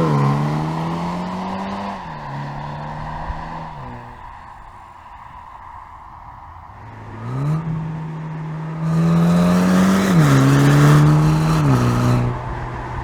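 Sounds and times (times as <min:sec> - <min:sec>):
car engine accelerating: 0:00.0 - 0:04.5, 0:06.8 - 0:13.0.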